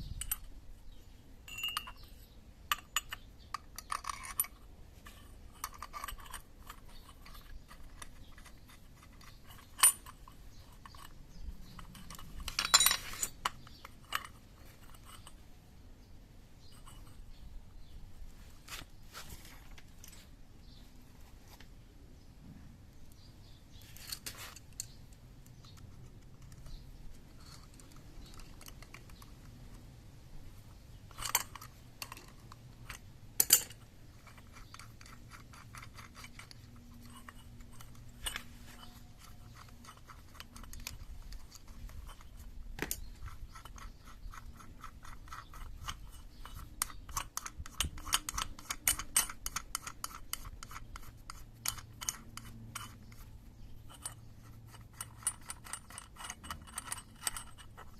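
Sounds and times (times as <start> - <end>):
hand tools clicking and scraping: 1.5 - 15.6, 23.1 - 29.9, 30.6 - 57.9.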